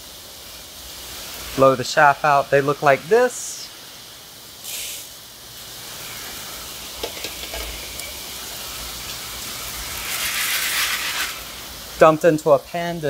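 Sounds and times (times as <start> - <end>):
steady hiss: 0.0 - 13.0
coffee beans pouring into pan: 0.4 - 12.4.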